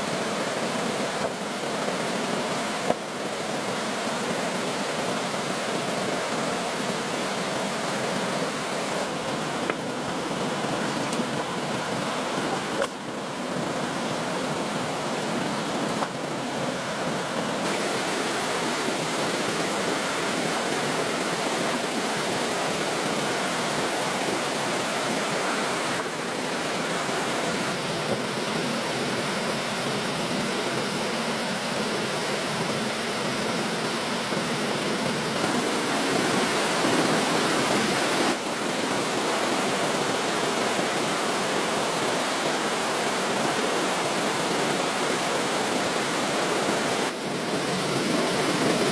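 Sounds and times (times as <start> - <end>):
water rushing: 0.0 - 48.9.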